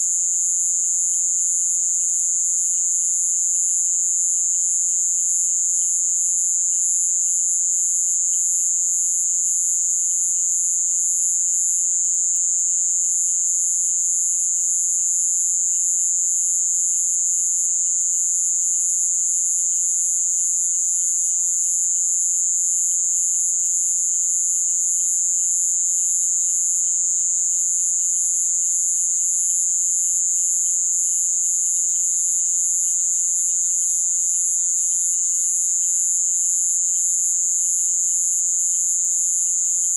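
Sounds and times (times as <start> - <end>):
faint pulsed frog calls: 0.0 - 39.9
high-pitched insect drone: 0.0 - 39.9.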